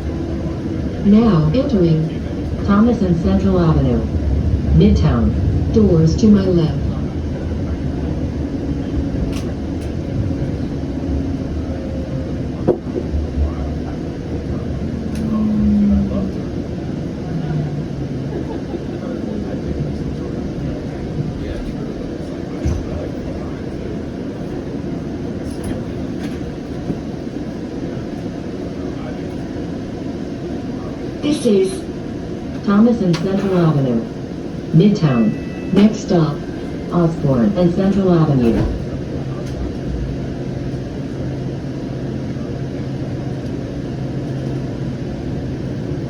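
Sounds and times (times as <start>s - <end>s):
tram rumbling: 0.0s - 46.0s.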